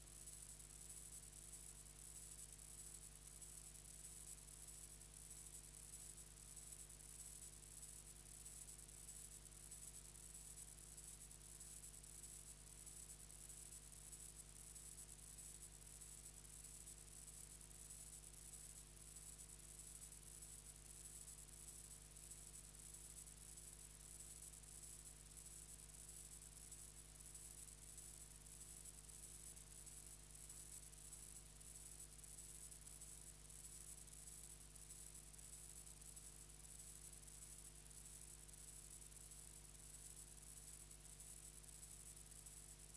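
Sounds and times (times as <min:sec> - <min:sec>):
faint steady hiss: 0:00.0 - 0:42.9.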